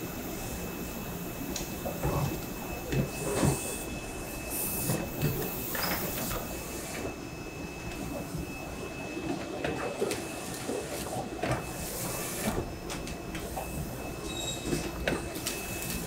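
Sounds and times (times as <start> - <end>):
machine noise with high whine: 0.0 - 16.0.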